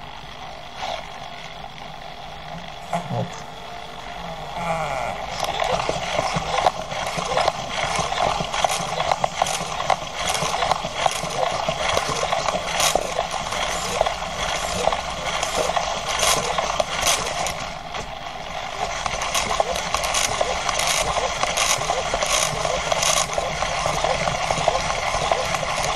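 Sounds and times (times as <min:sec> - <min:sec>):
servos whirring and grinding: 0:00.0 - 0:25.9.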